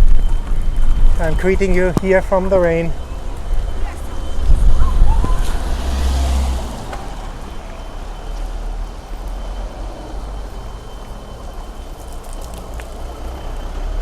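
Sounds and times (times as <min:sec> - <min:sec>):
wind rumbling on microphone: 0:00.0 - 0:13.1
rain hissing: 0:00.2 - 0:13.6.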